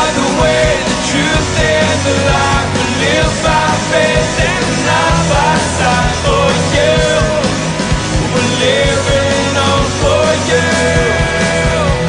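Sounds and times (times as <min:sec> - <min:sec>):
drum beat: 0:00.0 - 0:12.0
rock worship song: 0:00.0 - 0:12.0.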